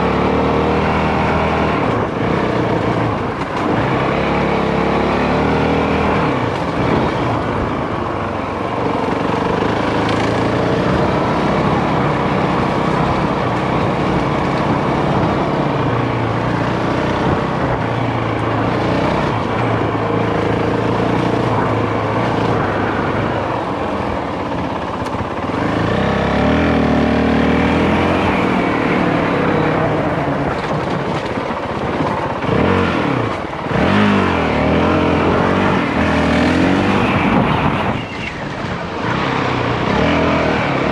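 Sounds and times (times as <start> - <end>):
dirt bike engine running: 0.0 - 40.9
steady rush of noise: 0.0 - 40.9.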